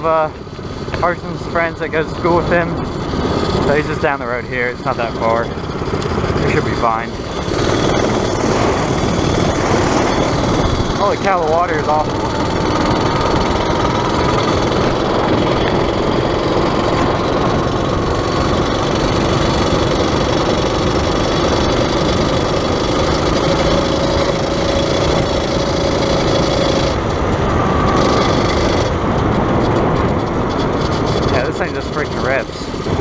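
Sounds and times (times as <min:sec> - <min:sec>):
dense rushing noise: 0:00.0 - 0:33.0
dirt bike engine running: 0:00.0 - 0:33.0.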